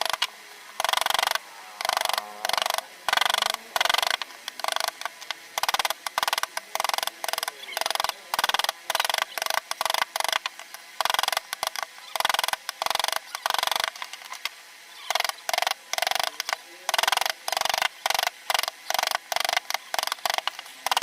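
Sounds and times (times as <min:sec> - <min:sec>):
carving tools scraping wood: 0:00.0 - 0:14.5, 0:15.1 - 0:21.0.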